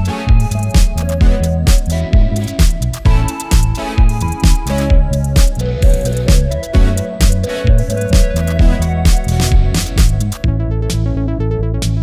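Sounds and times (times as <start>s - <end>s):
electronic music with drums: 0.0s - 12.0s.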